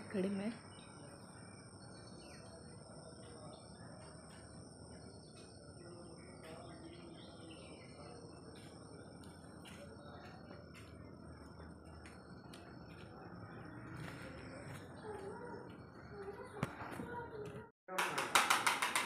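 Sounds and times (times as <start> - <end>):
bird chirps: 0.0 - 17.3.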